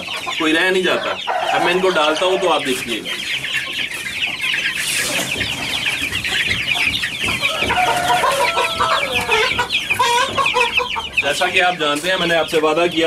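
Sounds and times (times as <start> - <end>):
chicks peeping and chirping: 0.0 - 13.0.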